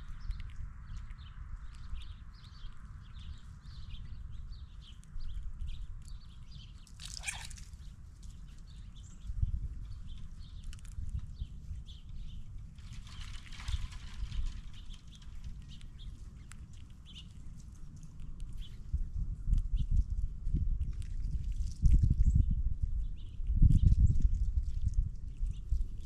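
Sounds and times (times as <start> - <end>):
squirrels crunching peanuts: 0.0 - 22.2
wind rumble on microphone: 0.0 - 26.0.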